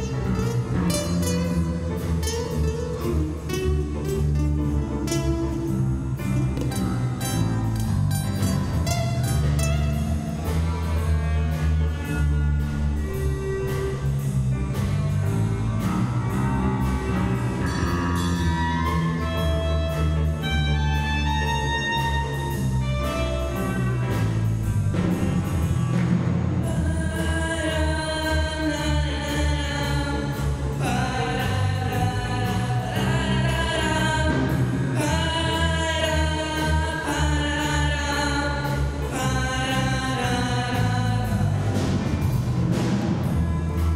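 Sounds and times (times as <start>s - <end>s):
drum kit beat: 0.0s - 43.9s.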